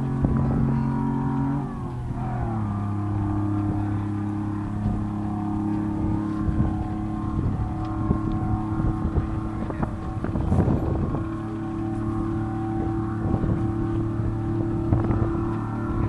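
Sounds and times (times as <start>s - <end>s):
truck engine droning: 0.0s - 16.0s
wind buffeting microphone: 0.0s - 16.0s.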